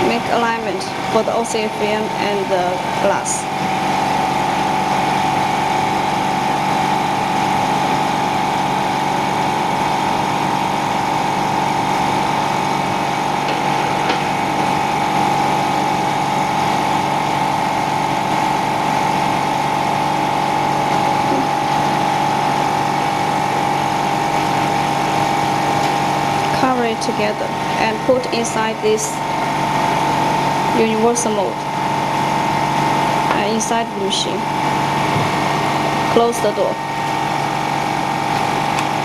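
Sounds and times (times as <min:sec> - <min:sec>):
vacuum pump humming: 0:00.0 - 0:39.0.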